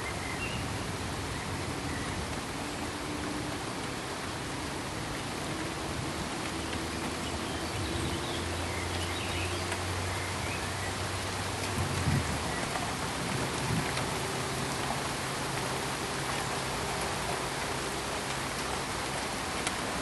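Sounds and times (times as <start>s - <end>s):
pink noise hiss: 0.0s - 20.0s.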